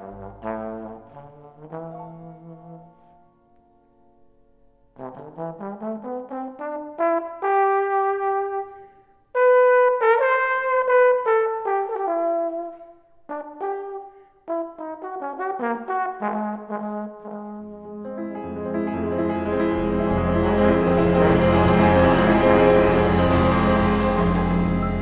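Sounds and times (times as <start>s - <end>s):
trombone jazz solo: 0.0s - 3.1s, 5.0s - 8.7s, 9.4s - 25.0s.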